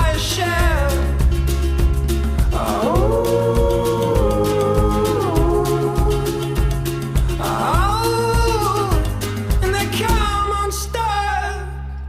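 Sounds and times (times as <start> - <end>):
person singing: 0.0 - 1.6, 2.4 - 11.8
song with steady beat and bass: 0.0 - 12.0.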